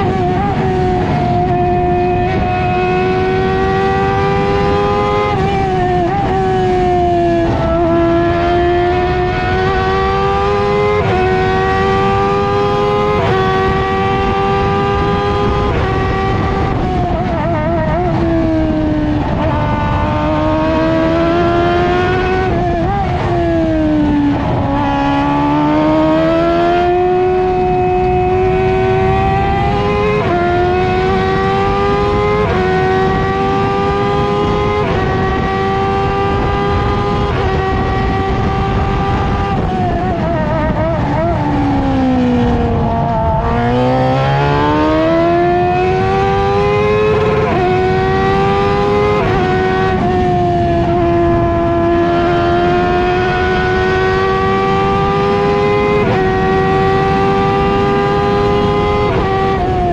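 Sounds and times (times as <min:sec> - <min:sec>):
race car engine through gear changes: 0:00.0 - 0:59.9.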